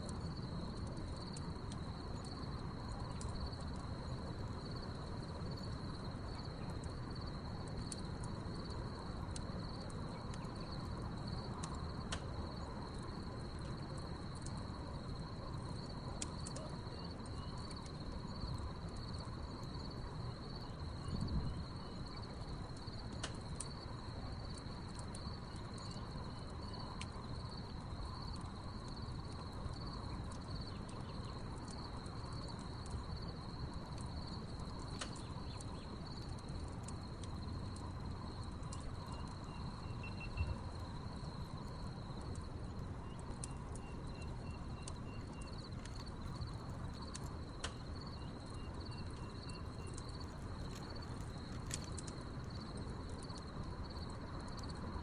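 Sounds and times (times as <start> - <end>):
crickets chirping: 0.0 - 55.0
wood fire crackling and popping: 0.0 - 55.0.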